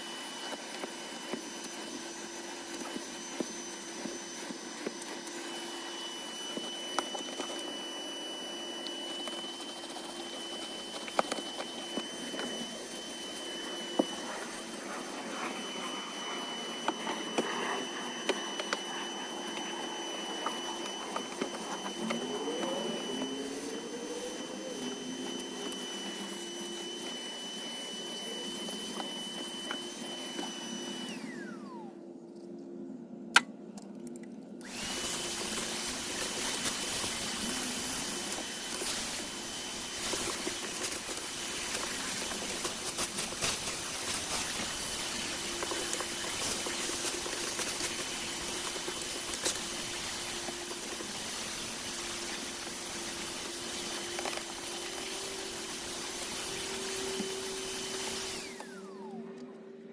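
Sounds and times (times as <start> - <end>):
vacuum cleaner running: 0.0 - 32.5, 34.6 - 59.9.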